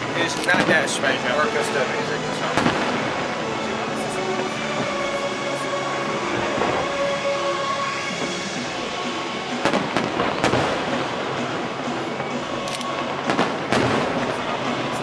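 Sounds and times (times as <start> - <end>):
fireworks bangs: 0.0 - 5.1, 8.0 - 15.0
fireworks crackling: 0.0 - 15.0.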